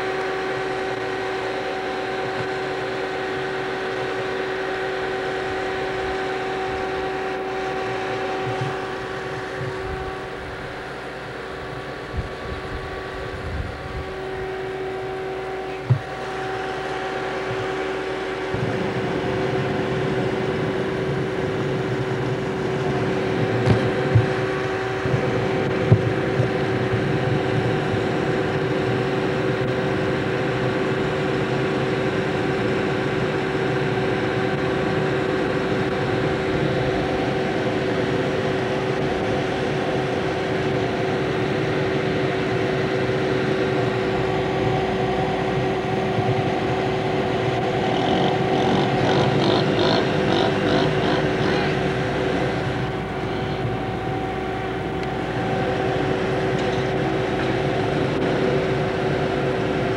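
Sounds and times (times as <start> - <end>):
engine humming: 0.0 - 59.9.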